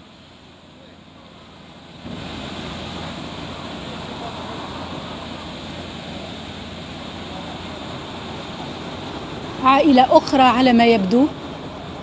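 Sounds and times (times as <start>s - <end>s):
airliner running noise: 0.1s - 12.0s.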